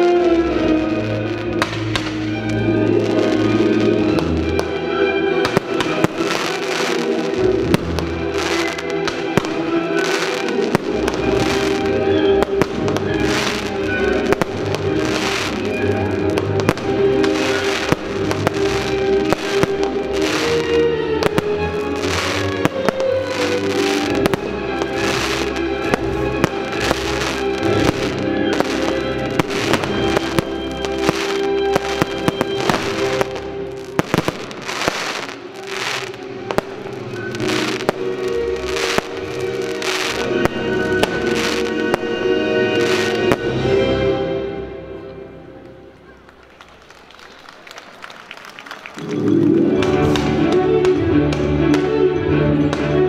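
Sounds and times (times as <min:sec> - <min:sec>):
hissing of rising fireworks: 0:00.0 - 0:43.9
music track: 0:00.0 - 0:47.0, 0:49.0 - 0:53.0.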